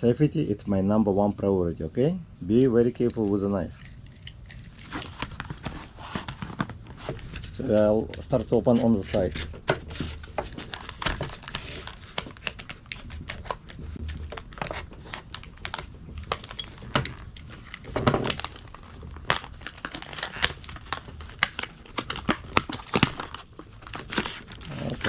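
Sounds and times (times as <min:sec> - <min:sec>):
packaging crinkling and tearing: 0:03.1 - 0:25.0.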